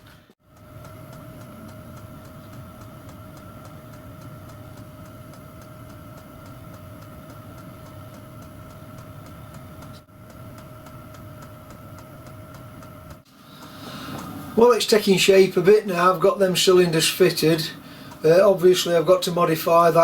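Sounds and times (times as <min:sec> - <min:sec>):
machine humming: 0:00.0 - 0:20.0
faint even ticking: 0:00.4 - 0:20.0.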